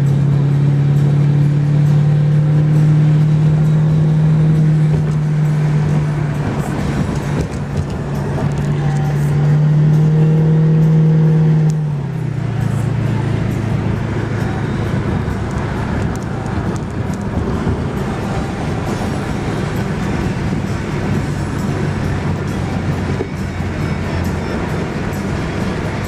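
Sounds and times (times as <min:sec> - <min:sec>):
car engine droning and idling: 0:00.0 - 0:26.0.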